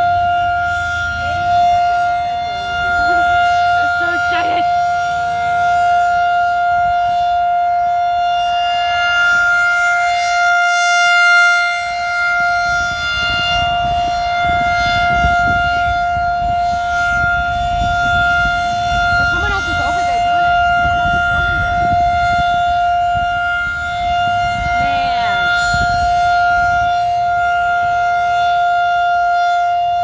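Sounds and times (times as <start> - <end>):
tornado siren steady tone: 0.0 - 30.0.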